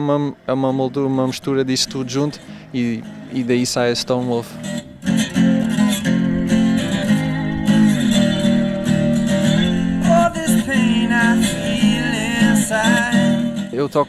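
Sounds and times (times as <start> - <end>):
slide guitar playing: 0.0 - 14.0.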